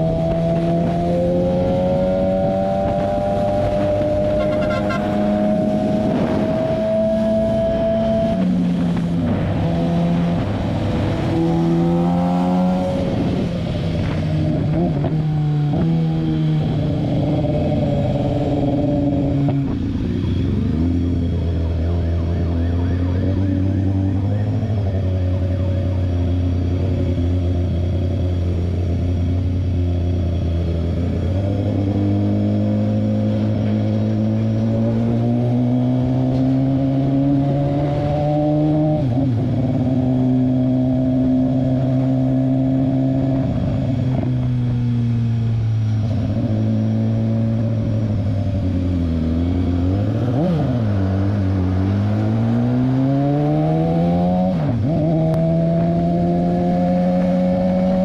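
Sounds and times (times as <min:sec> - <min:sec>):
motorcycle engine accelerating: 0:00.0 - 0:58.0
wind and road noise: 0:00.0 - 0:58.0.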